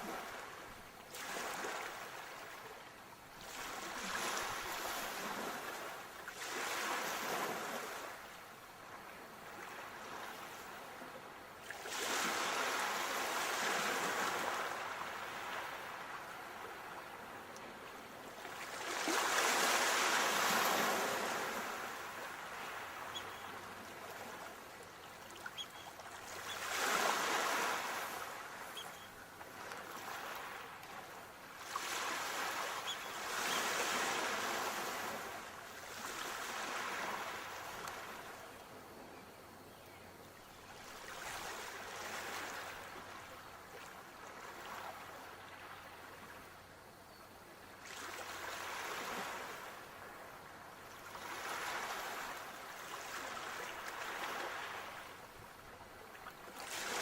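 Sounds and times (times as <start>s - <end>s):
sea waves breaking on shore: 0.0s - 38.9s, 40.6s - 46.5s, 47.8s - 57.0s.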